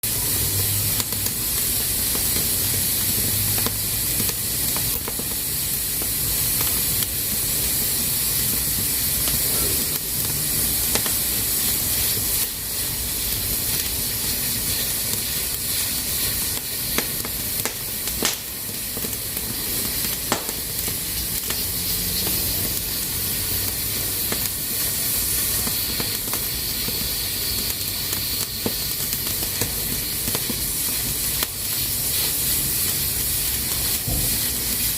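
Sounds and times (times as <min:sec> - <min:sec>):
pressure cooker hissing: 0:00.0 - 0:34.9.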